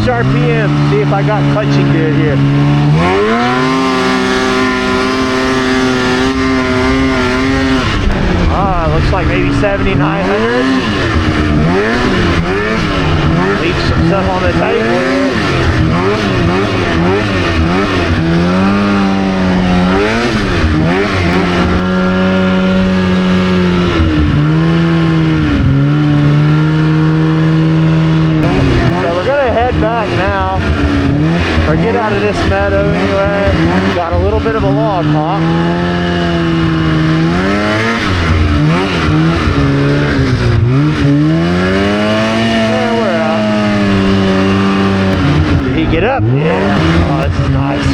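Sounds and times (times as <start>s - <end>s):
snowmobile engine revving: 0.0s - 47.9s.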